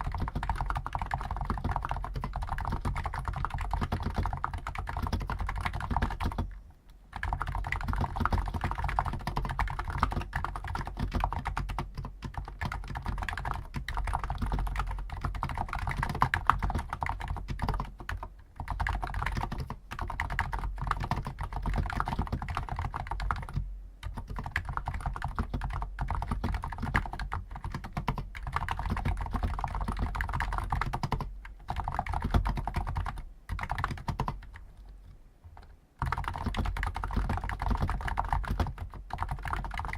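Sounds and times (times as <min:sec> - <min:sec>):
fast keyboard typing: 0:00.0 - 0:34.9, 0:35.6 - 0:39.9.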